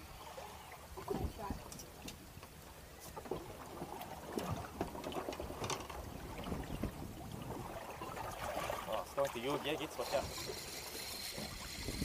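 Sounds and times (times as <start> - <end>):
water sloshing against boat hull: 0.1 - 12.0.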